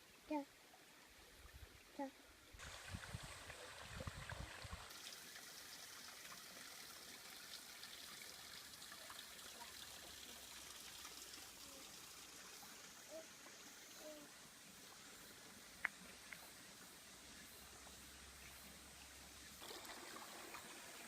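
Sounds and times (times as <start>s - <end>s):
stream flowing over rocks: 2.6s - 21.0s.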